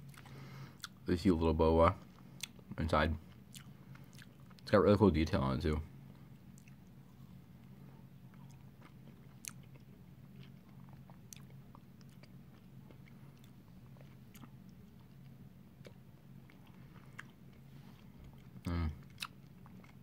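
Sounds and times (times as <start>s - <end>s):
chewing and biting ice cream: 0.0s - 1.0s, 2.1s - 4.7s, 6.4s - 20.0s
steady low hum: 0.0s - 20.0s.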